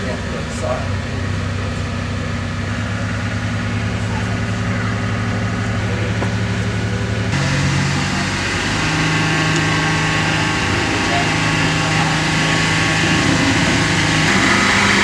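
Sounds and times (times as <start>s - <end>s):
truck engine idling and revving: 0.0s - 15.0s.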